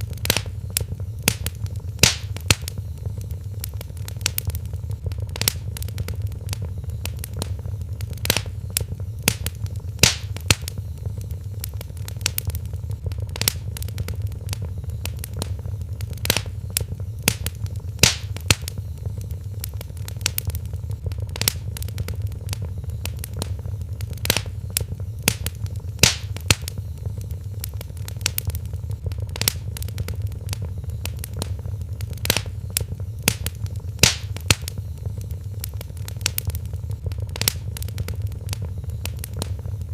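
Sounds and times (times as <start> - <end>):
fire crackling and popping: 0.0 - 39.9
low rumble of fire: 0.0 - 39.9.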